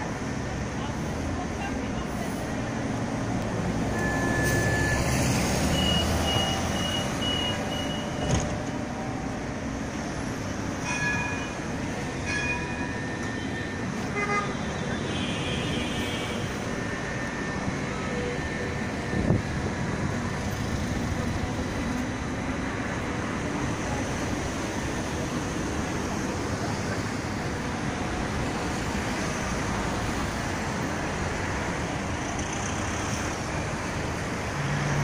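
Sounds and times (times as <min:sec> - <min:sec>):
city street traffic: 0:00.0 - 0:35.0.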